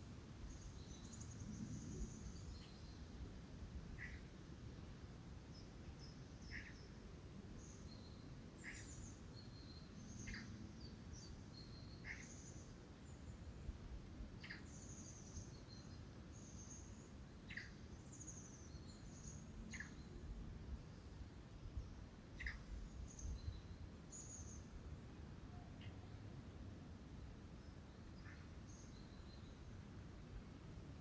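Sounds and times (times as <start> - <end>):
small birds chirping: 0.4 - 3.2, 3.9 - 4.3, 5.4 - 13.8, 14.4 - 24.9, 27.2 - 30.4.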